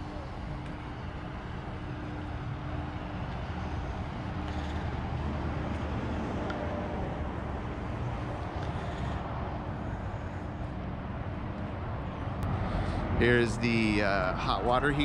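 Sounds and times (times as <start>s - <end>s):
faint steady hum: 0.0s - 15.0s
low outdoor rumble: 0.0s - 15.0s.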